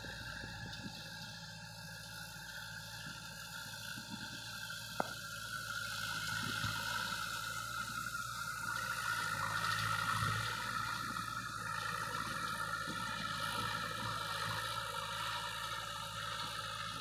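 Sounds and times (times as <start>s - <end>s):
distant tractor engine droning: 0.0s - 17.0s.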